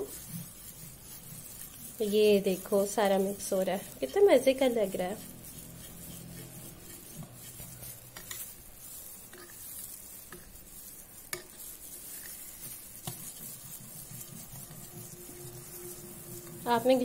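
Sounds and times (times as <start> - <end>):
whisk clicking on bowl: 0.0 - 17.0
whisk stirring wet mixture: 0.0 - 17.0.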